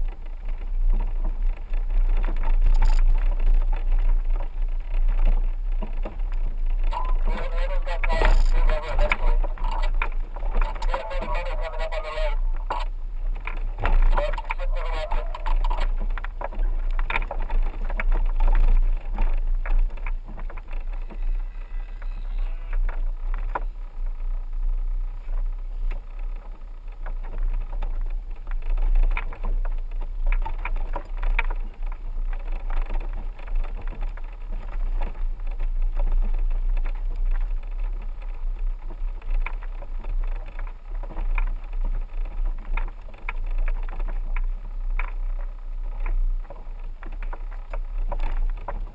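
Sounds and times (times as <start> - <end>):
vehicle rumbling on dirt road: 0.0 - 48.9.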